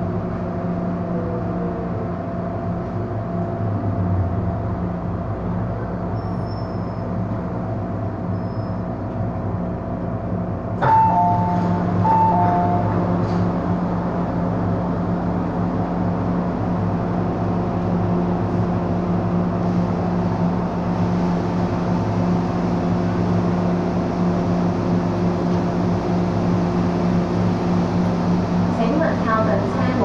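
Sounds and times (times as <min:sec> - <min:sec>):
air-conditioning rush of air: 0:00.0 - 0:30.0.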